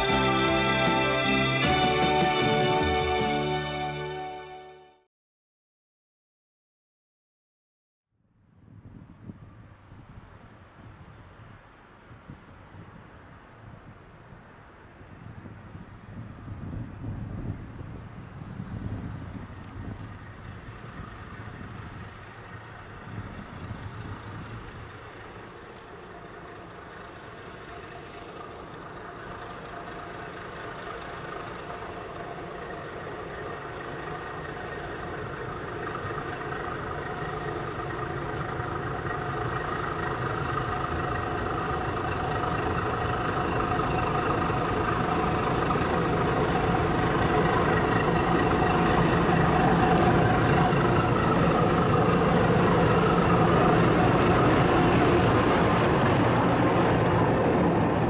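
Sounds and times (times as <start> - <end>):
diesel locomotive engine running: 0.0 - 4.9, 9.0 - 58.0.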